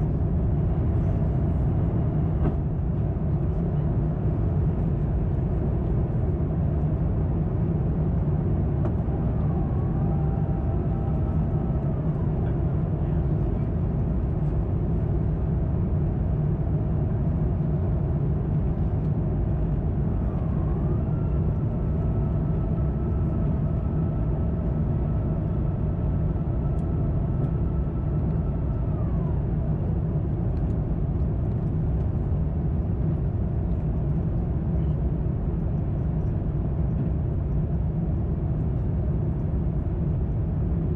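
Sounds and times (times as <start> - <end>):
airplane cabin rumble: 0.0 - 40.9
faint whine: 0.0 - 40.9.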